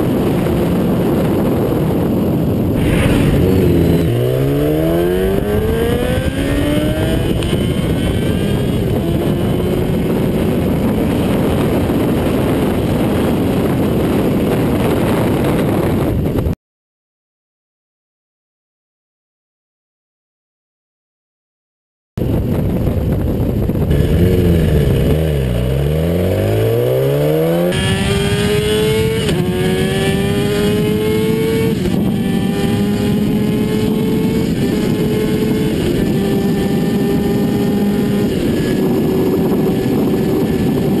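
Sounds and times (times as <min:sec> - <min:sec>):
motorcycle engine accelerating: 0:00.0 - 0:16.6, 0:22.2 - 0:41.0
wind noise: 0:00.0 - 0:16.6, 0:22.2 - 0:41.0.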